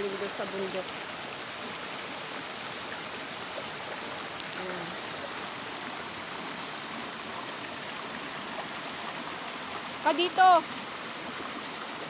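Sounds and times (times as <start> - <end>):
creek rushing over boulders: 0.0 - 12.0.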